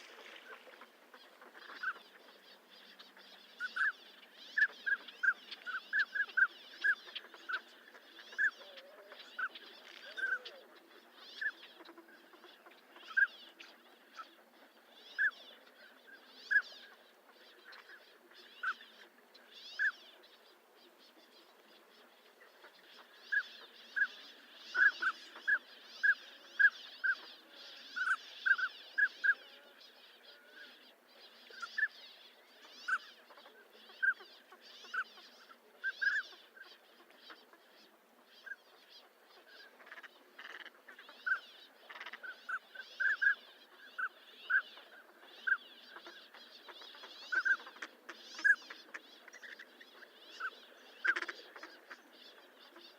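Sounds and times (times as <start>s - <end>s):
ducks whistling calls: 0.0s - 14.3s, 22.5s - 30.8s, 32.6s - 52.9s
faint high chatter: 0.0s - 52.9s.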